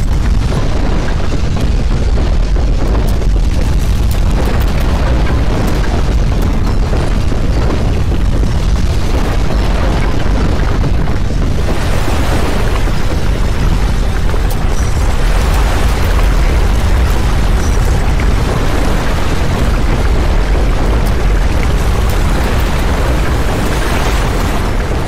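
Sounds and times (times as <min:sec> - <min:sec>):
deep earthquake rumble: 0:00.0 - 0:25.0
noisy crackle: 0:00.0 - 0:25.0.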